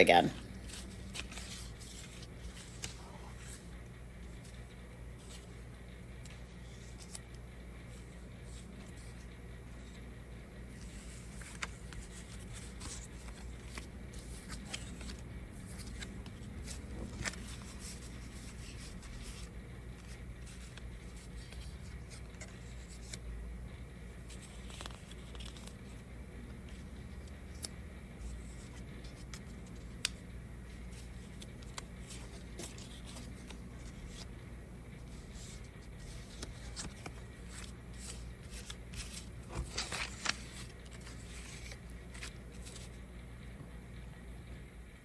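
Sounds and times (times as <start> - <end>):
low room hum: 0.0 - 45.0
paper rustling: 0.5 - 5.6, 6.2 - 10.0, 10.7 - 23.2, 24.2 - 26.0, 26.6 - 34.3, 35.0 - 43.0.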